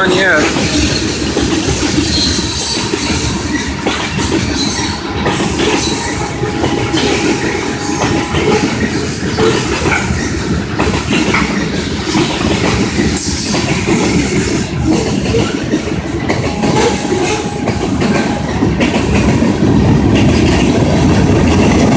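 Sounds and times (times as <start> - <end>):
freight train cars rumbling: 0.0 - 21.9
wheels clattering over rail joints: 0.0 - 21.9.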